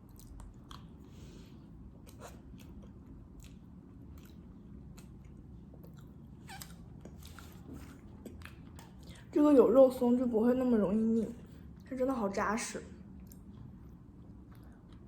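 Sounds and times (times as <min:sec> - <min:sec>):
faint chewing of soft cake: 0:00.0 - 0:09.6, 0:11.2 - 0:12.0, 0:12.9 - 0:15.0.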